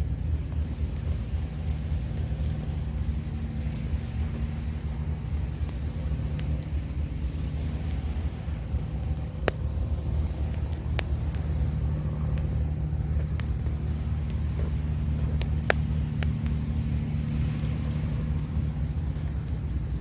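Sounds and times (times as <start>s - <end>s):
campfire crackling: 0.0s - 20.0s
fire popping: 0.0s - 20.0s
low engine-like rumble: 0.0s - 20.0s.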